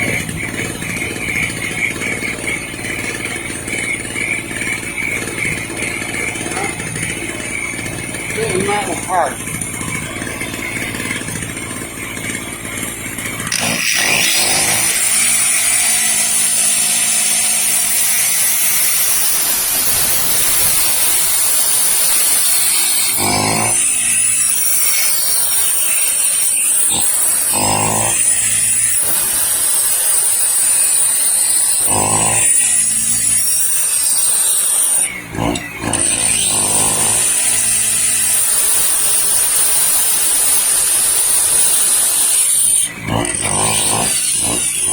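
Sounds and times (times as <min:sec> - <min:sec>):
electric drill whining: 0:00.0 - 0:44.9
generator engine under load: 0:00.0 - 0:44.9.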